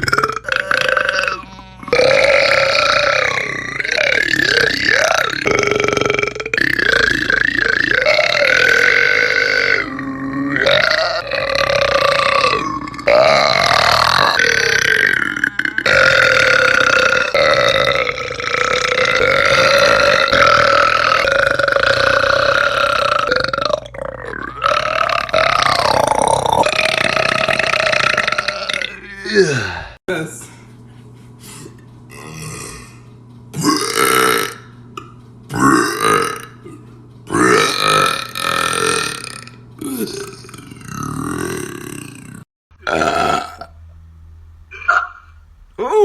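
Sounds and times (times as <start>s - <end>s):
man burping loudly: 0.0s - 30.0s, 32.1s - 33.0s, 33.6s - 34.7s, 35.5s - 43.8s.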